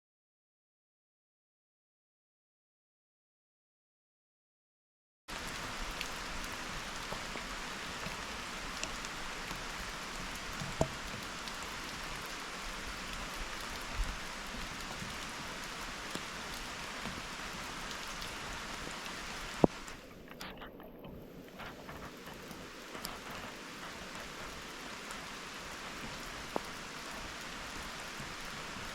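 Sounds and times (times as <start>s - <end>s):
steady rain hiss: 5.3s - 28.9s.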